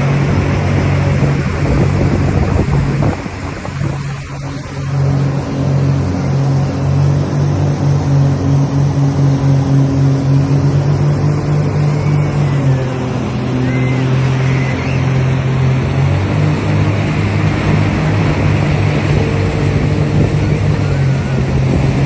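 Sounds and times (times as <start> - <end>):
motorboat engine running: 0.0 - 22.0
wind and water rushing: 0.0 - 22.0.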